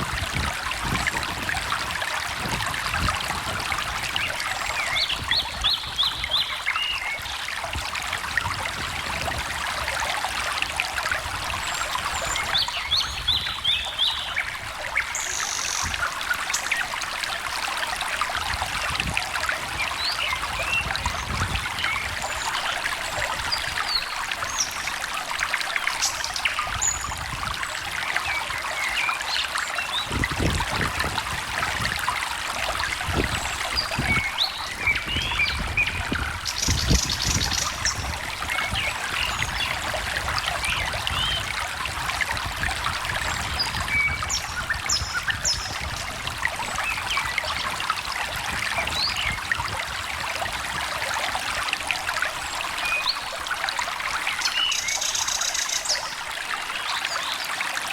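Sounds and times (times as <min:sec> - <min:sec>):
small stream trickling: 0:00.0 - 0:57.9.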